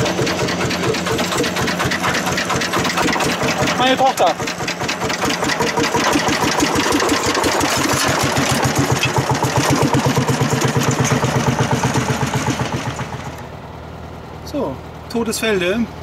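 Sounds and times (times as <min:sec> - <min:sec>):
tractor diesel engine chugging: 0:00.0 - 0:16.0.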